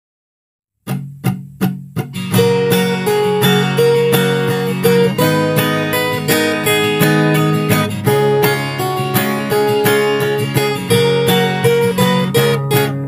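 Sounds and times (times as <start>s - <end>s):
acoustic guitar strumming: 0.8s - 13.0s.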